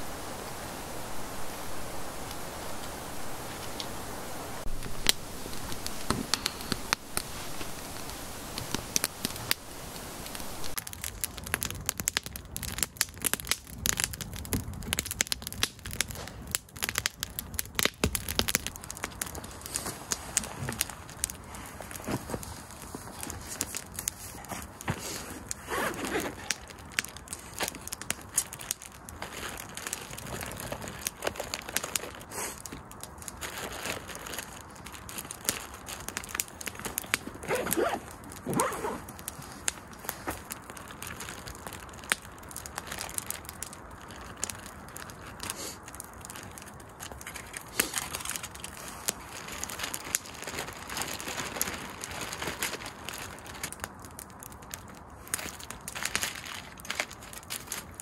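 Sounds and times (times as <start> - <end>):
campfire crackling: 0.0 - 58.0
rustles: 0.0 - 58.0
aluminium foil crinkling: 4.6 - 9.6, 10.4 - 58.0.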